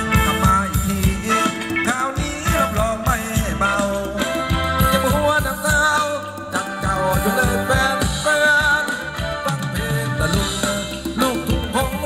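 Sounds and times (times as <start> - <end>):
live band dance music: 0.0 - 12.0
quick steady drum beat: 0.0 - 12.0.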